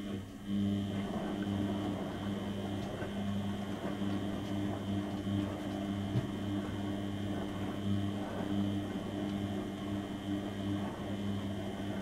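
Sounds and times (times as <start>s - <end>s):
laundry churning in water: 0.0s - 12.0s
washing machine drum humming: 0.0s - 12.0s.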